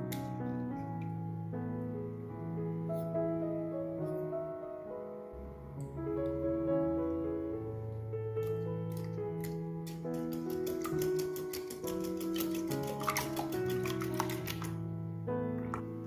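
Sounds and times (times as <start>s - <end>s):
instrumental piano music: 0.0s - 16.0s.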